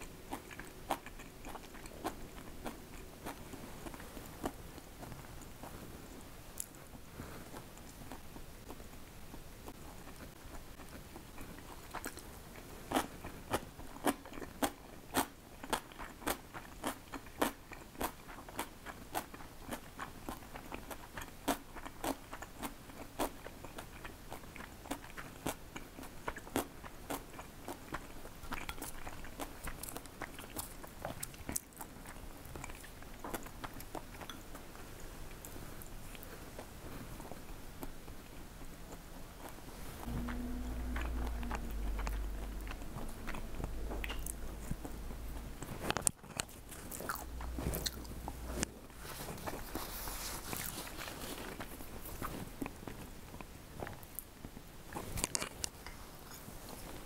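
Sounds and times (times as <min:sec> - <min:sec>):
person chewing crunchy food: 0:00.0 - 0:54.2.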